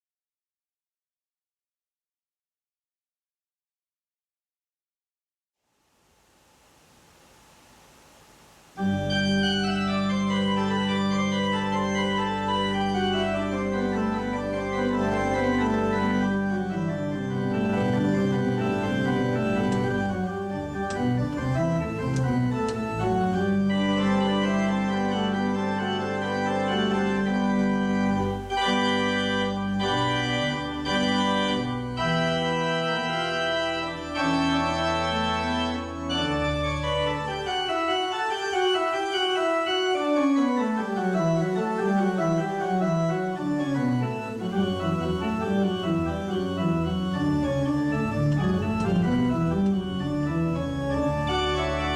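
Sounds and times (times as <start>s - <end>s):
organ chords: 6.7s - 51.9s.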